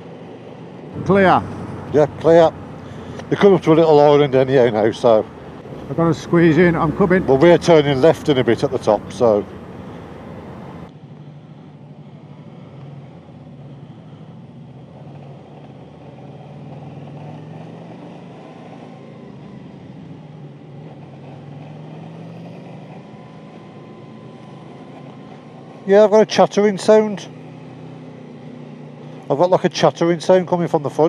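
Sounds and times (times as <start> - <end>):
motorcycle engine cruising: 0.0 - 31.0
wind and road noise: 0.0 - 31.0.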